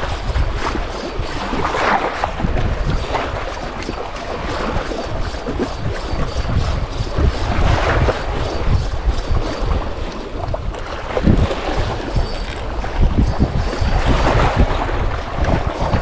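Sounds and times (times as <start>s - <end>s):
fishing reel cranking: 0.0s - 10.0s, 11.9s - 14.8s, 15.4s - 16.0s
waves washing against rocks: 0.0s - 16.0s
wind buffeting microphone: 0.0s - 16.0s.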